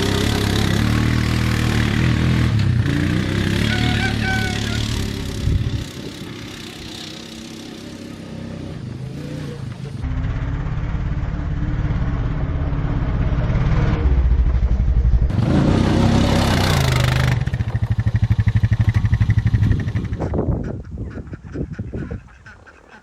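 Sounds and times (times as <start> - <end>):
vehicle engine revving: 0.0 - 20.9.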